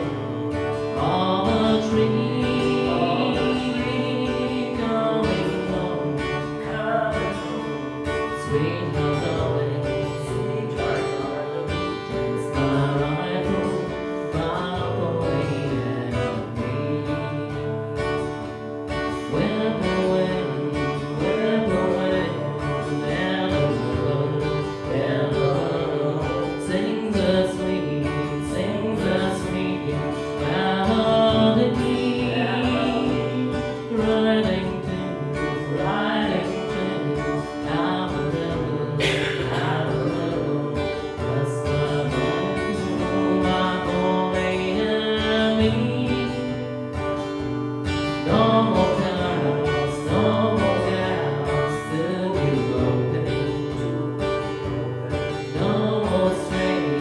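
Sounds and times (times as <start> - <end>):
acoustic guitar: 0.0 - 57.0
person singing: 0.0 - 57.0.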